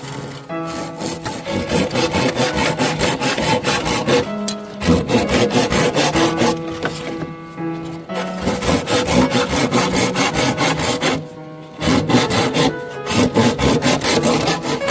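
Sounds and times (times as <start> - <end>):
background music: 0.0 - 14.9
rapid rasping sawing strokes: 0.0 - 14.9.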